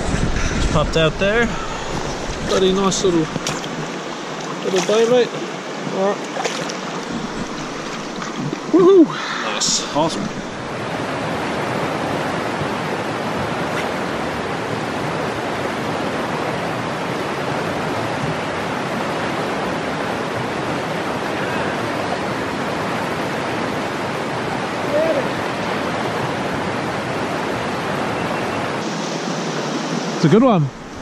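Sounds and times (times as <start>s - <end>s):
river rapids rushing over stones: 1.4s - 31.0s.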